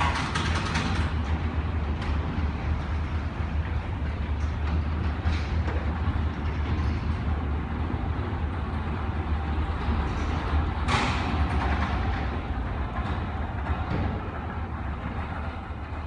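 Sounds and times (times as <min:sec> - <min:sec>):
garage door rumbling on tracks: 0:00.0 - 0:16.0
rattling rush: 0:00.0 - 0:16.0.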